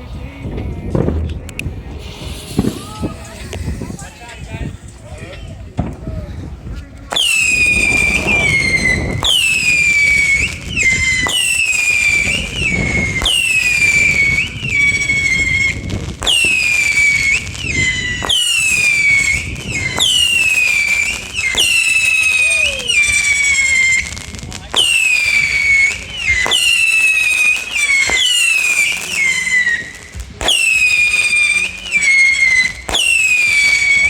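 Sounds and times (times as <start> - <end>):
firework cake firing: 0.0 - 34.0
falling firework whistle: 2.0 - 3.6, 7.1 - 34.0.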